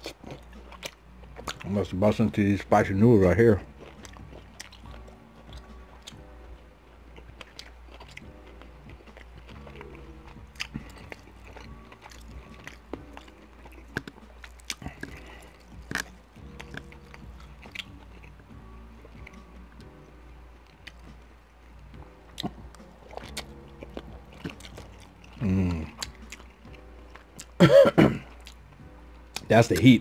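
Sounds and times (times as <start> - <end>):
person chewing wetly: 0.0 - 2.2, 3.6 - 20.0, 20.6 - 21.2, 21.8 - 29.9
faint background music: 0.0 - 30.0.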